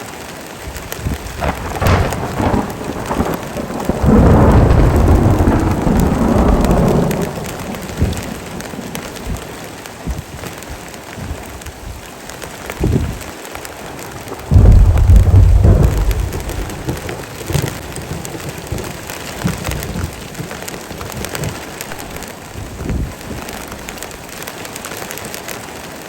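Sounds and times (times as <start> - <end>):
heavy rain falling: 0.0 - 26.0
thunder rumbling: 0.6 - 25.1.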